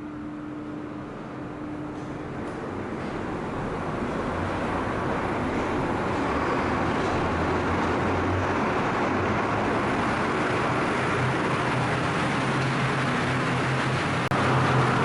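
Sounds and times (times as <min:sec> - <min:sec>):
funicular car rumbling: 0:00.0 - 0:15.0
low motor hum: 0:00.0 - 0:15.0.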